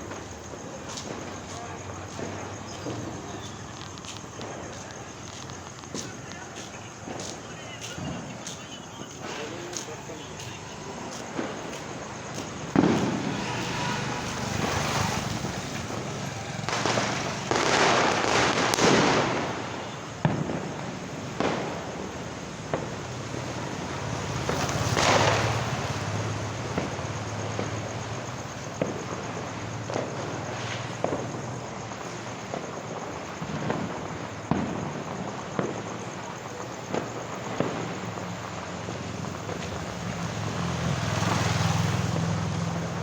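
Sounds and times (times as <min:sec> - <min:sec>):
firecrackers banging: 0:00.0 - 0:43.0.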